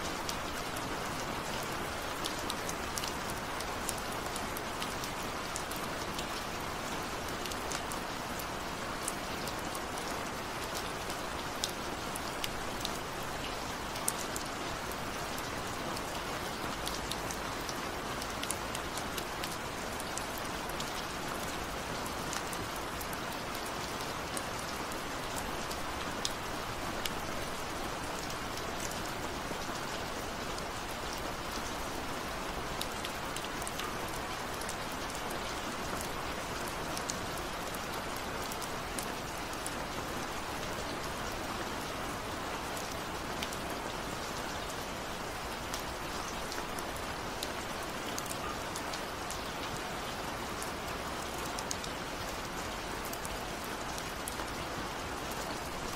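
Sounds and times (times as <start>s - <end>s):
steady rain hiss: 0.0s - 55.9s
ticks of raindrops: 0.0s - 55.9s.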